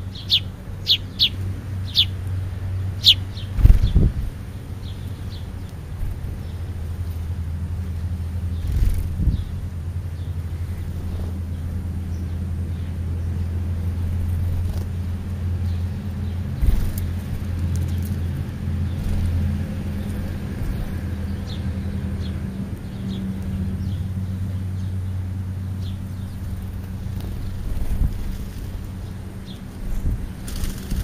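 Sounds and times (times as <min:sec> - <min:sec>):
low engine rumble: 0:00.0 - 0:31.0
sparrows chirping: 0:00.0 - 0:31.0.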